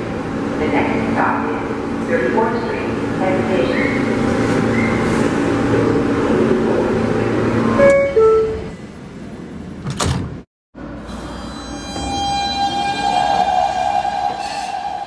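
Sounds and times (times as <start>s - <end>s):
subway train humming: 0.0s - 15.0s.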